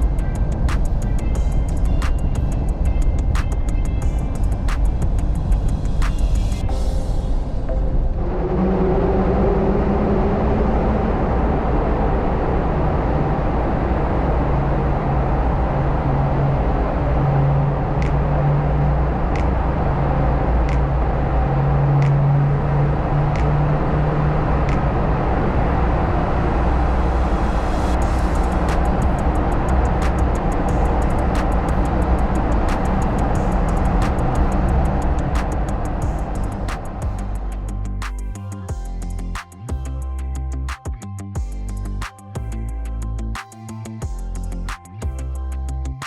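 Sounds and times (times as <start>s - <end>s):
car engine and road noise: 0.0s - 43.4s.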